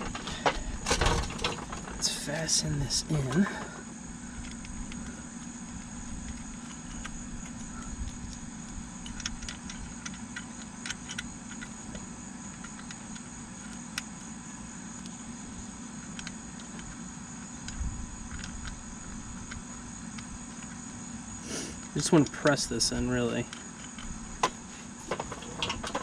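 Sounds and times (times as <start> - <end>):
insect trilling: 0.0 - 26.0
low steady hum: 0.0 - 26.0.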